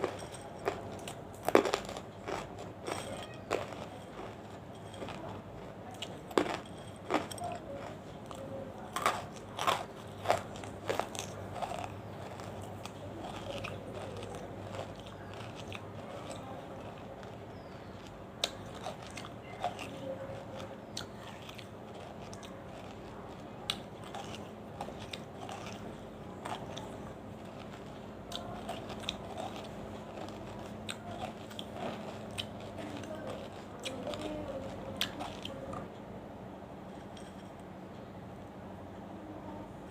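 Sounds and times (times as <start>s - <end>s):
crunching bites: 0.0s - 35.8s
crunchy chewing: 0.0s - 36.1s.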